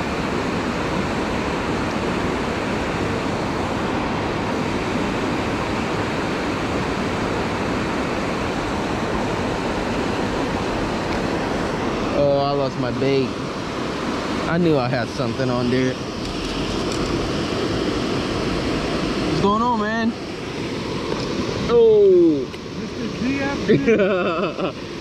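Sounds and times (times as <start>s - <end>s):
water rushing over dam: 0.0s - 25.0s.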